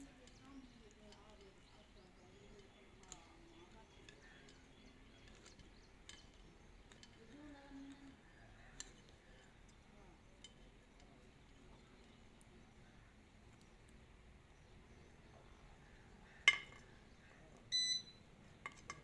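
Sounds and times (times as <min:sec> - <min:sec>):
faint sharp clicks and clinks: 0:00.0 - 0:19.0.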